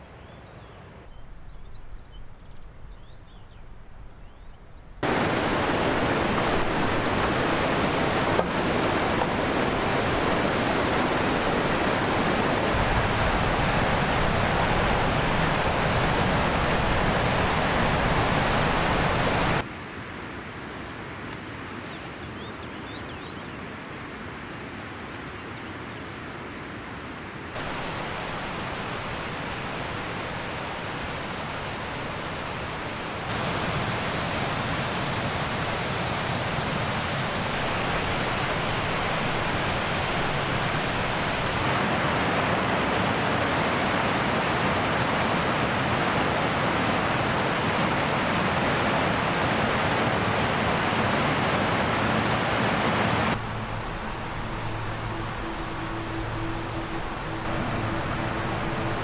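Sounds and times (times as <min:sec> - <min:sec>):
rushing mountain stream: 0:05.0 - 0:59.0.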